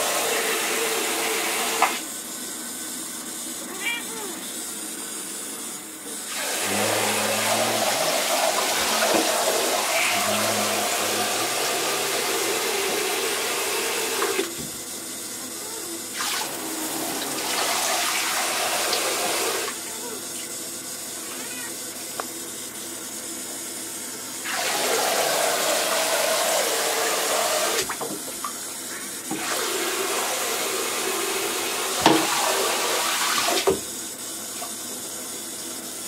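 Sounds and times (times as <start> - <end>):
shower water spraying into bathtub: 0.0 - 36.0.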